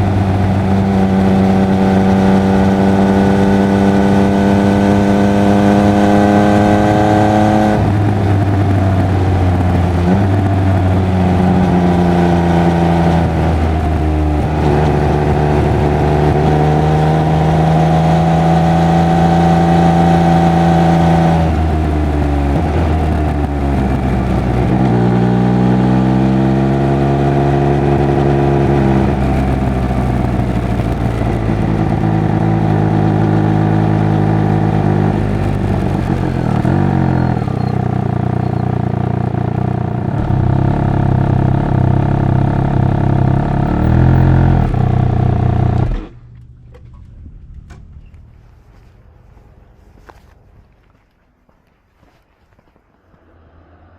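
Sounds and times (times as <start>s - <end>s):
motorcycle engine revving: 0.0s - 50.4s.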